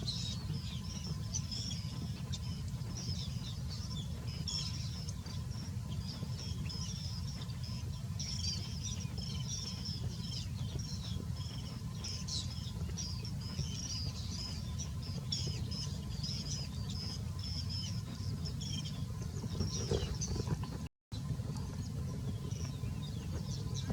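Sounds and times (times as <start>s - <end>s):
baby birds chirping: 0.0s - 20.7s
steady low rumble: 0.0s - 23.9s.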